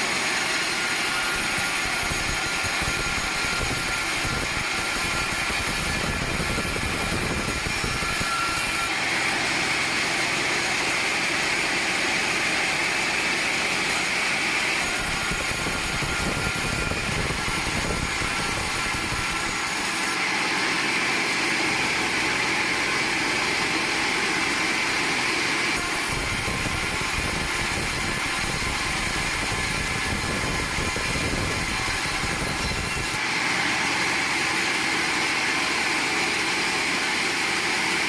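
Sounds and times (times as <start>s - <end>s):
sawmill saw running with whine: 0.0s - 38.0s.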